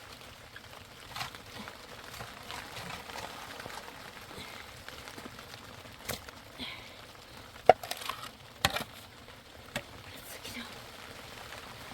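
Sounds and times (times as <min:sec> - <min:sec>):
hard rain falling: 0:00.0 - 0:11.9.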